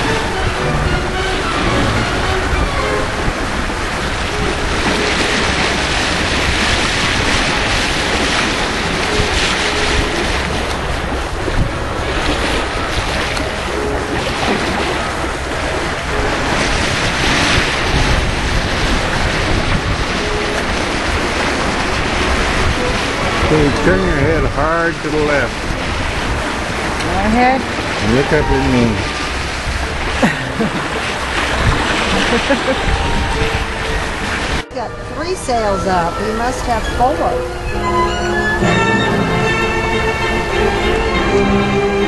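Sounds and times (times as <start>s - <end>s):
wind buffeting microphone: 0.0s - 38.7s
water rushing along boat hull: 0.0s - 42.0s.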